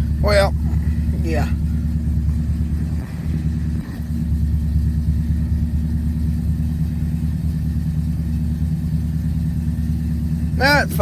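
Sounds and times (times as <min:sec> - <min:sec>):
truck engine idling rumble: 0:00.0 - 0:11.0.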